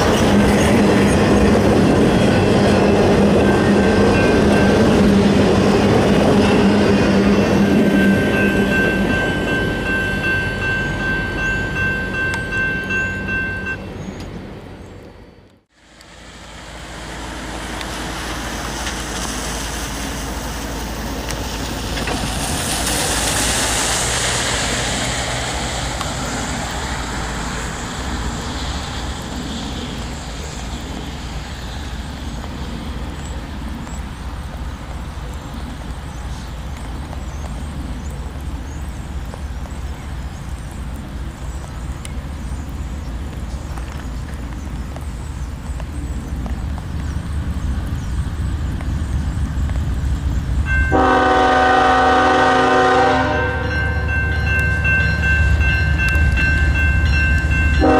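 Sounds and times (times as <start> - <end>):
freight train rumbling past: 0.0 - 57.9
rail and wheel noise: 0.0 - 57.9.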